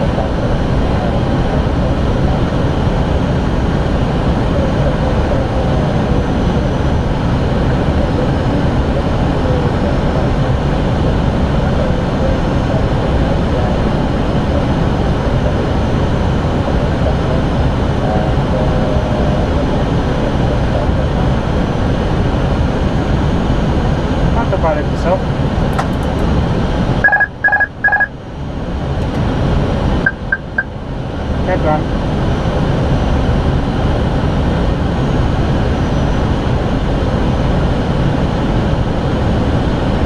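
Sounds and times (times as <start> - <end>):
airplane cockpit rumble: 0.0 - 40.0.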